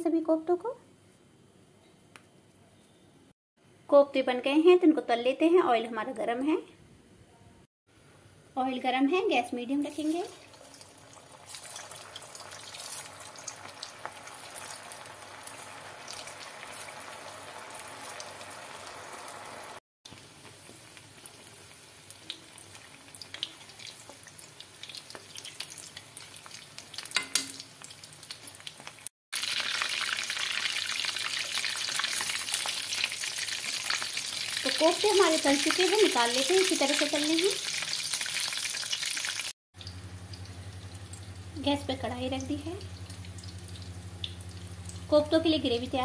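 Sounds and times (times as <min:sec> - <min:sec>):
deep-frying sizzle with crackles: 0:09.1 - 0:46.0.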